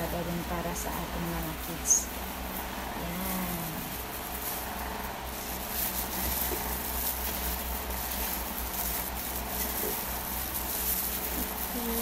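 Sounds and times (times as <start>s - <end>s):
crushed crackers rustling: 0.0s - 12.0s
plastic gloves crinkling: 0.0s - 12.0s
steady low hum and hiss: 0.0s - 12.0s.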